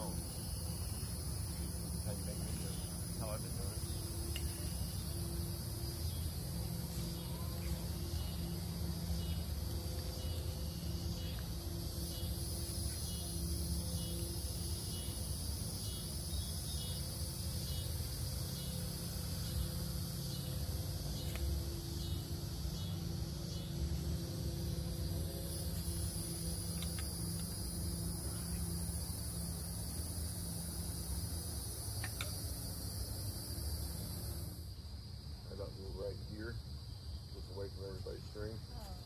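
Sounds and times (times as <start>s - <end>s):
crickets and insects chirping: 0.0s - 39.0s
steady low hum: 0.0s - 39.0s.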